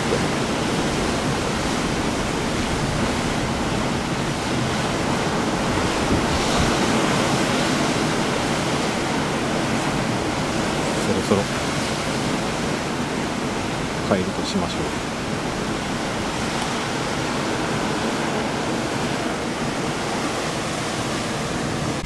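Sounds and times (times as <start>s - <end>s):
surf breaking on rocky shore: 0.0s - 22.0s.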